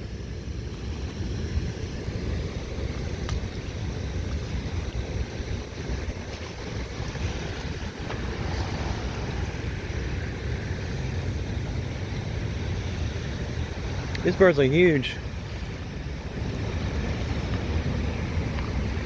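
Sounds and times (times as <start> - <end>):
strong wind buffeting microphone: 0.0 - 19.0
waves on water: 0.0 - 19.0.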